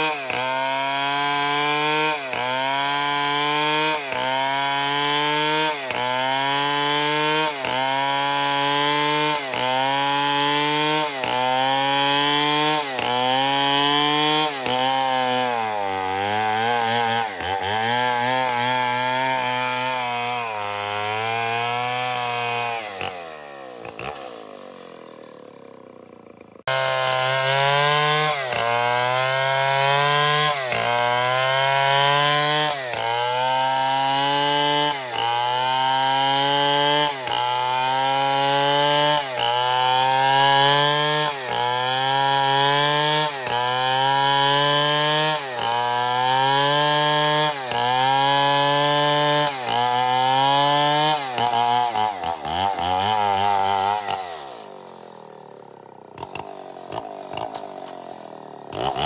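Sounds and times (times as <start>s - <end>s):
chainsaw ripping a log: 0.0s - 59.0s.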